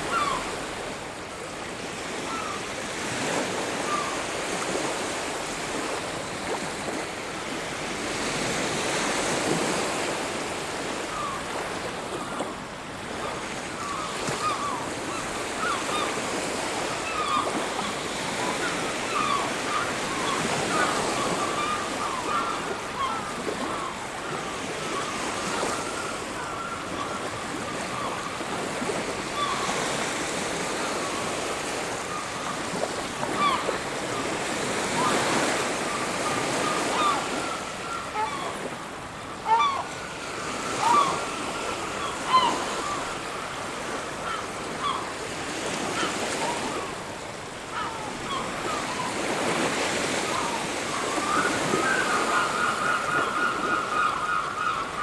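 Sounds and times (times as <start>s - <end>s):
surf washing on beach: 0.0s - 55.0s.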